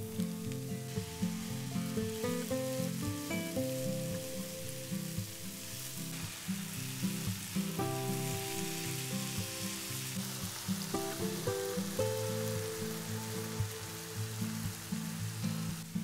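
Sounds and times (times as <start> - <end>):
background music: 0.0 - 16.0
vegetables sizzling in oil: 0.0 - 16.0.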